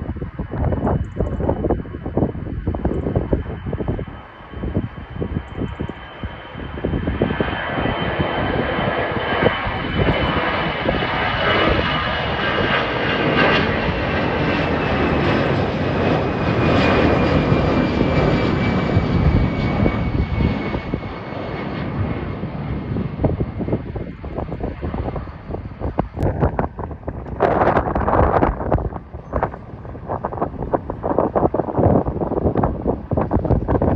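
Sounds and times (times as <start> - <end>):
airliner engines rumbling: 0.0 - 33.9
high jet whine: 0.0 - 33.9.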